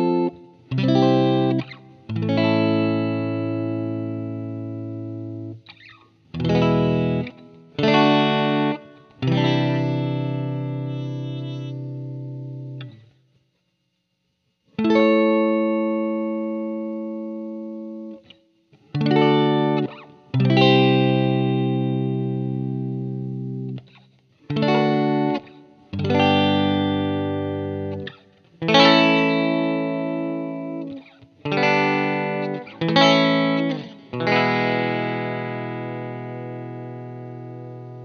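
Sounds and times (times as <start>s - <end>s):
slow guitar chords ringing: 0.0s - 13.1s, 14.7s - 38.0s.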